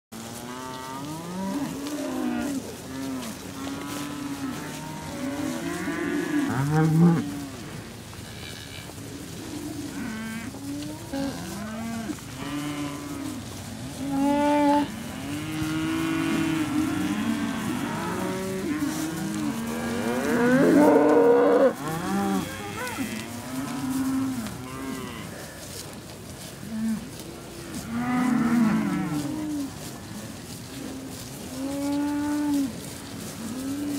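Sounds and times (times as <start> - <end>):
cows mooing: 0.2 - 25.6, 26.6 - 32.8.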